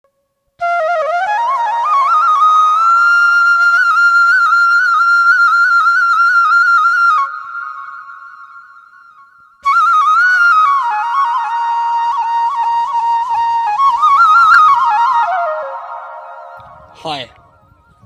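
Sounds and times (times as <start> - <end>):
flute melody: 0.6 - 18.0.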